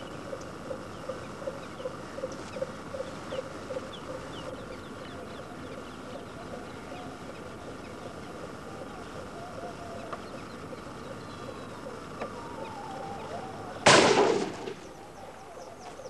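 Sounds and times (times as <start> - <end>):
marsh bird clucking calls: 0.0 - 13.9
small birds chirping: 0.0 - 13.9, 14.6 - 16.0.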